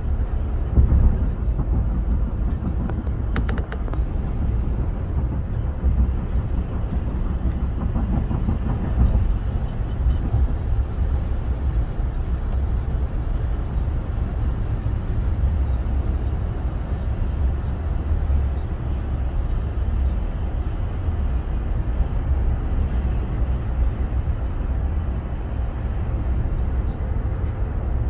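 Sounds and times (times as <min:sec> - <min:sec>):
road and tyre noise in vehicle: 0:00.0 - 0:28.0.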